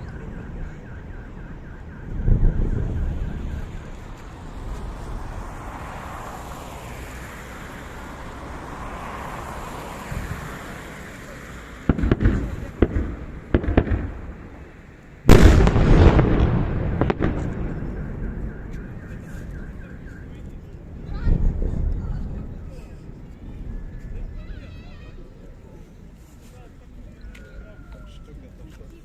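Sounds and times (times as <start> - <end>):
fireworks bangs: 0.0 - 25.7
firework burst rumble and crackle: 0.0 - 26.2.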